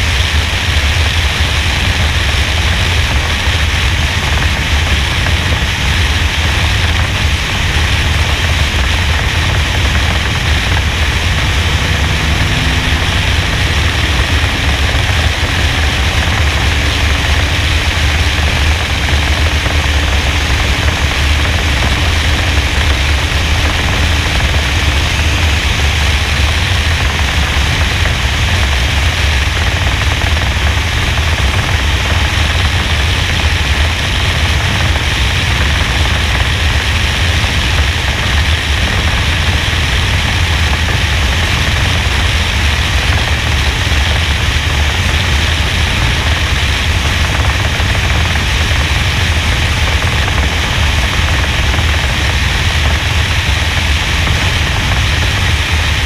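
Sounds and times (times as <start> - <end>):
racing car engine: 0.0 - 56.0
wind buffeting: 1.8 - 56.0.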